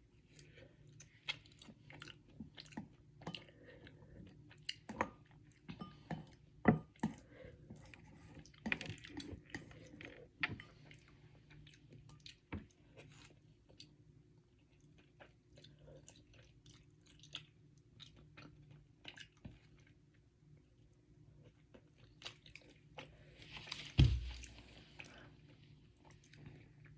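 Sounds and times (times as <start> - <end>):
person chewing noodles: 0.2 - 5.7, 7.0 - 23.2.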